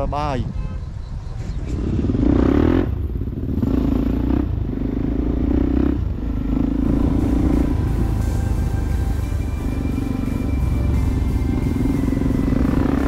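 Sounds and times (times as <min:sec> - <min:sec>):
dirt bike engine revving: 0:01.7 - 0:13.0.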